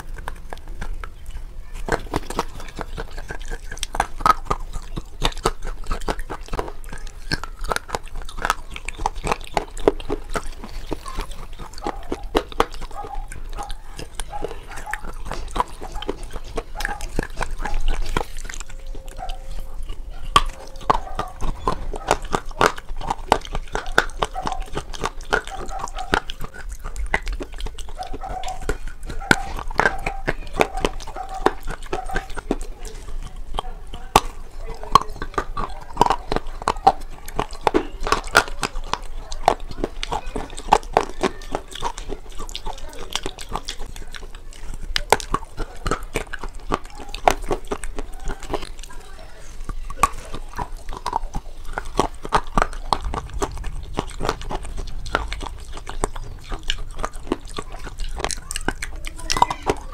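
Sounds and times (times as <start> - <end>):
chewing and crunching wafer bars: 0.0 - 59.9.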